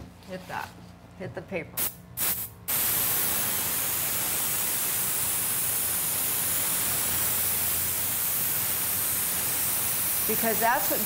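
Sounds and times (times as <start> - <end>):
airbrush hissing: 1.8 - 11.0.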